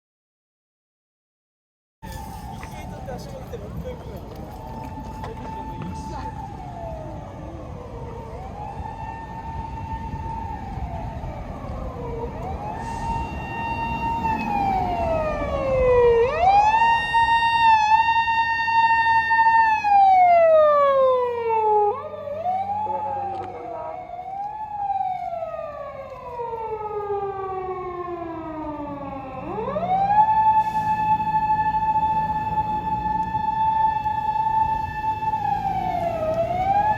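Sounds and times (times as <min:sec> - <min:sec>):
police car siren wailing: 0:02.0 - 0:36.9.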